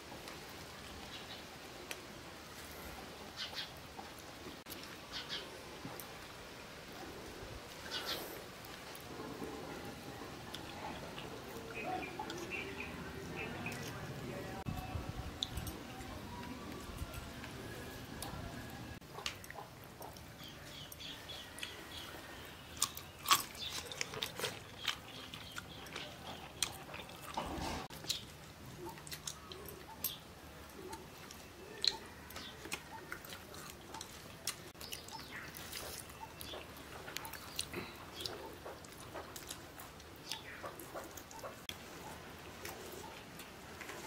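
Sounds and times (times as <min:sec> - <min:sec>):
people chewing with wet smacks: 0:07.9 - 0:14.6, 0:15.2 - 0:44.0.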